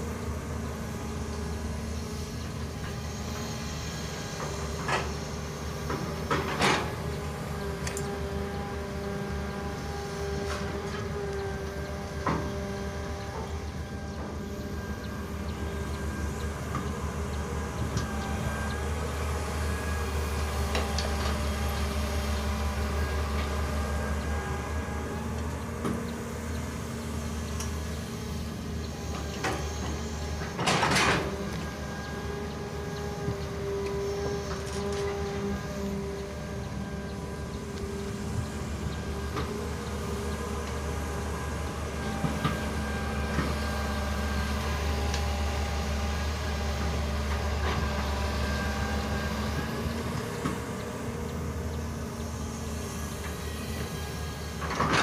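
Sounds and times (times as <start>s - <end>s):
excavator diesel engine running: 0.0s - 55.0s
hydraulic whine: 0.0s - 55.0s.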